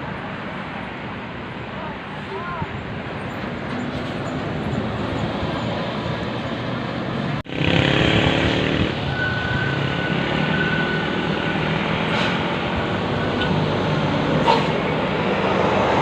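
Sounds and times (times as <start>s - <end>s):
bus engine passing close: 0.0s - 16.0s
road traffic passing: 0.0s - 16.0s.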